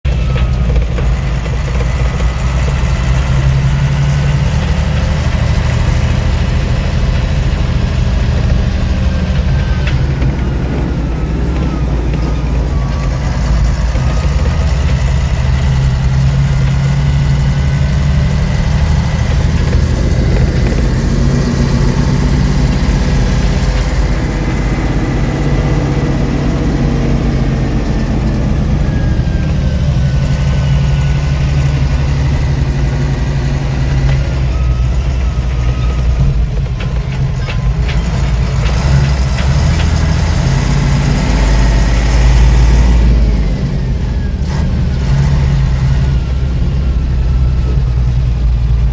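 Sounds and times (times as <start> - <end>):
crane diesel engine drone: 0.1 - 48.9.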